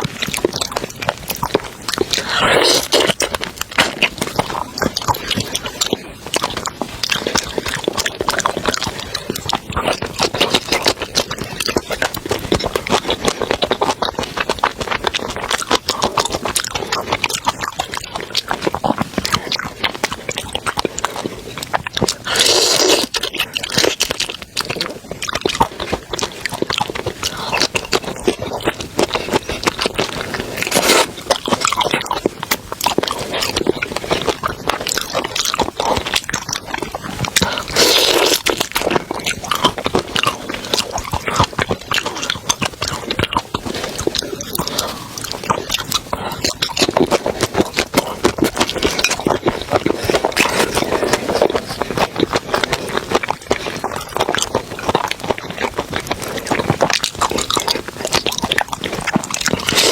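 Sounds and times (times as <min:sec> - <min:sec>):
person chewing seafood: 0:00.0 - 0:59.9.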